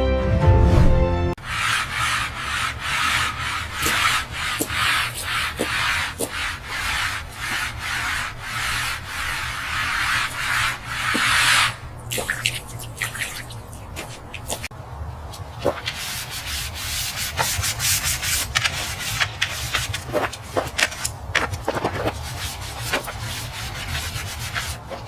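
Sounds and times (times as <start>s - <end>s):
abrasive rubbing on hard surface: 1.4s - 14.7s, 15.6s - 25.0s.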